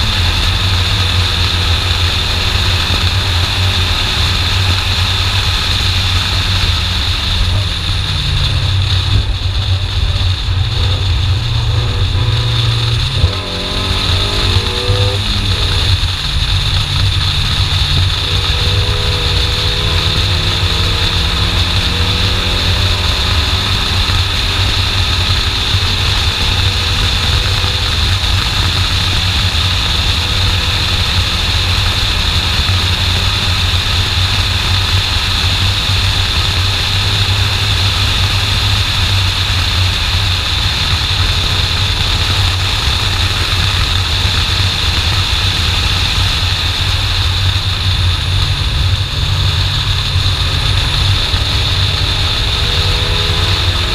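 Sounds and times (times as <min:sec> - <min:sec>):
car engine running: 0:00.0 - 0:53.9
wind rumble on microphone: 0:00.0 - 0:53.9.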